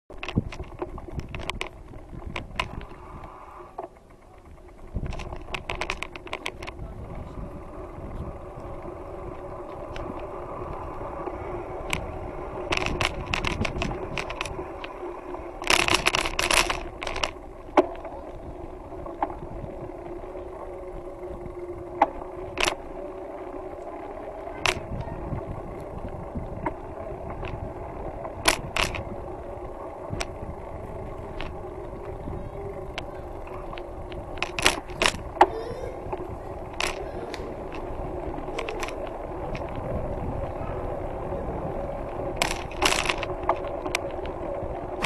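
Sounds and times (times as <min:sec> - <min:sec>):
bicycle tyres humming: 0:00.1 - 0:45.0
bike rattling over bumps: 0:00.1 - 0:45.0.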